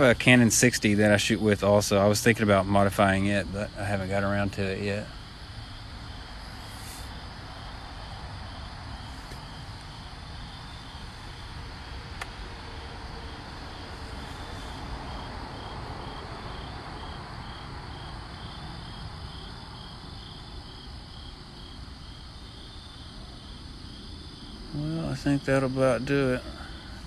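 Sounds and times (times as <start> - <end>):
cricket chirping: 0.0 - 27.0
steady hiss: 0.0 - 27.0.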